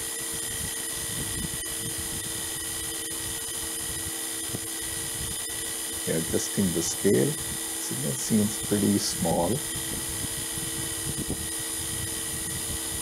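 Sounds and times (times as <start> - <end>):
jet turbine starter whine: 0.0 - 13.0.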